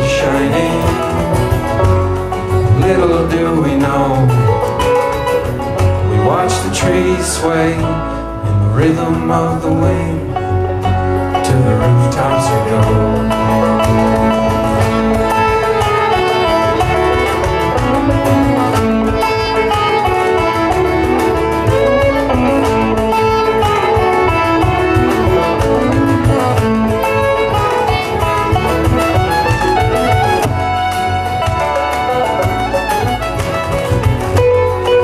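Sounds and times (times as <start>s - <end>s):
acoustic guitar: 0.0s - 35.0s
banjo picking: 0.0s - 35.0s
fiddle: 0.0s - 35.0s
upright bass: 0.0s - 35.0s.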